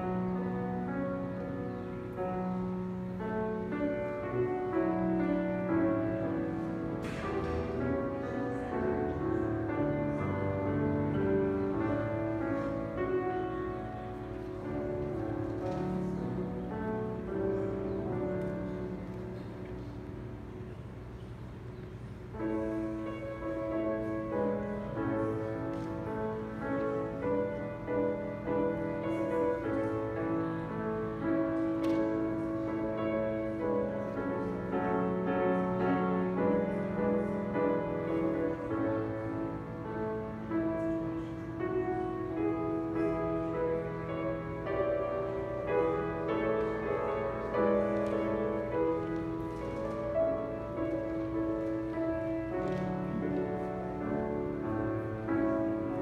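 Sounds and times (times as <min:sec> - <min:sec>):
grand piano playing chords: 0:00.0 - 0:56.0.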